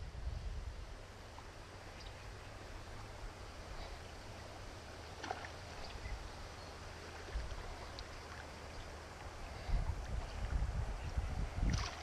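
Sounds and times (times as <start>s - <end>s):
wind rumble on microphone: 0.0s - 4.6s, 5.7s - 12.0s.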